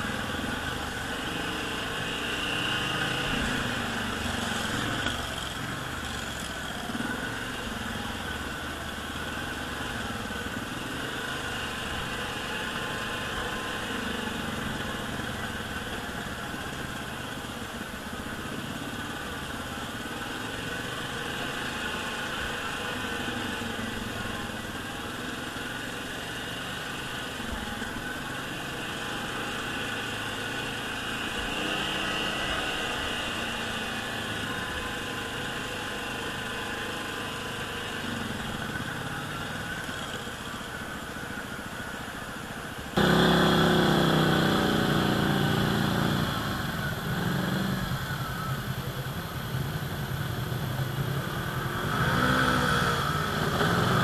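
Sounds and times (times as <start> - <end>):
atv engine revving: 0.0 - 41.6, 42.9 - 54.0.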